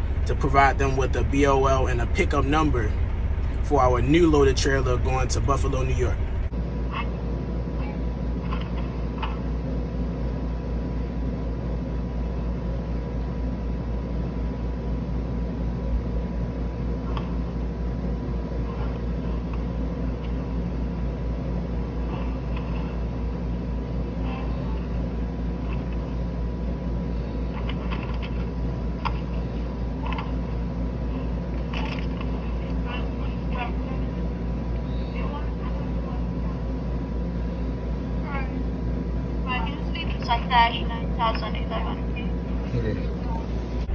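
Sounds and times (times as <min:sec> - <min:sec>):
low mechanical hum: 0:00.0 - 0:43.9
thin steady whine: 0:00.0 - 0:43.9.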